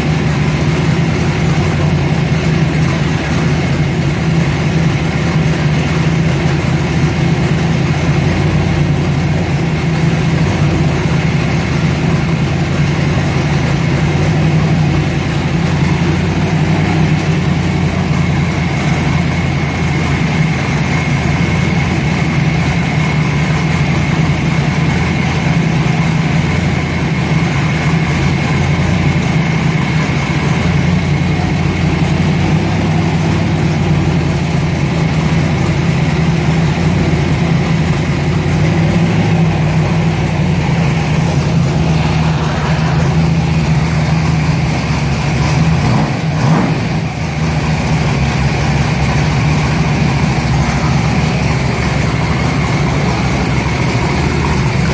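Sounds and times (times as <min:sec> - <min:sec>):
car engine idling with lope: 0:00.0 - 0:54.9.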